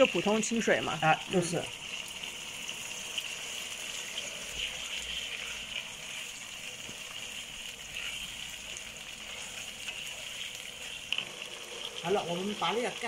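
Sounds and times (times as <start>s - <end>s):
chicken sizzling in a pan: 0.0s - 13.0s
spatula stirring: 0.0s - 13.0s.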